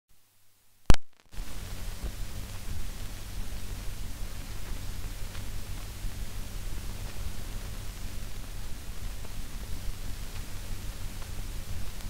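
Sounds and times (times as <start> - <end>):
film soundtrack hiss and hum: 0.1 - 12.0
faint crackles: 0.2 - 12.0.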